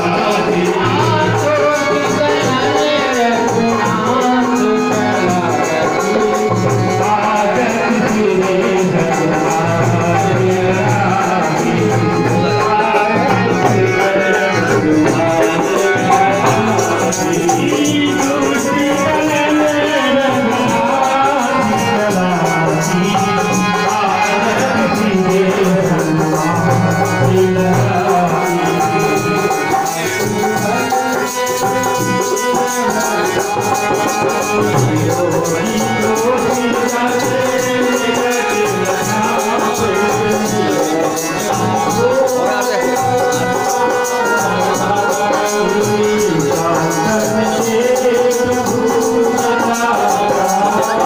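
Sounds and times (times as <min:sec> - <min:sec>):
devotional singing: 0:00.0 - 0:51.0.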